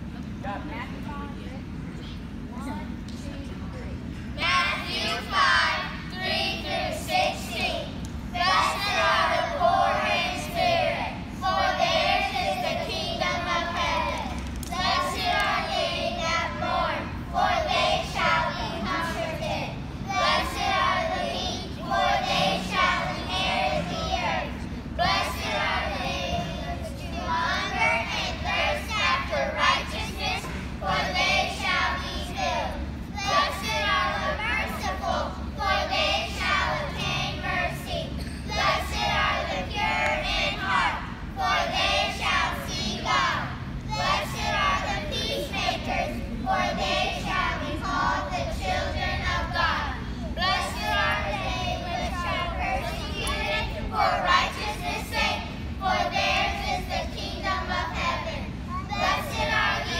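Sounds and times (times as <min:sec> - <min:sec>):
children reciting in unison: 0:04.4 - 0:59.9.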